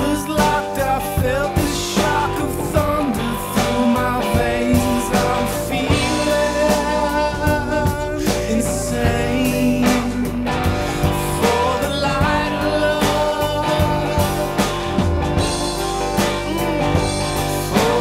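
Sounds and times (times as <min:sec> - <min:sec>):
bass guitar: 0:00.0 - 0:18.0
drum kit beat: 0:00.0 - 0:18.0
electric guitars: 0:00.0 - 0:18.0.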